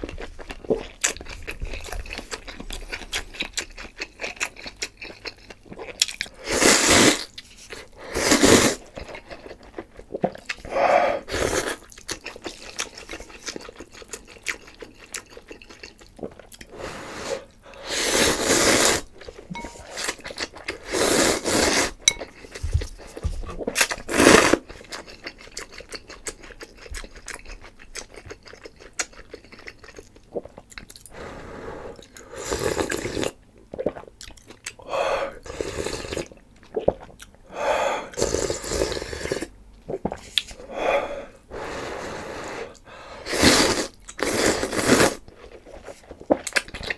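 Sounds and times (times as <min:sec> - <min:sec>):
person chewing: 0:00.0 - 0:16.8, 0:18.0 - 0:31.1, 0:32.0 - 0:34.8, 0:38.0 - 0:40.7, 0:42.7 - 0:46.9.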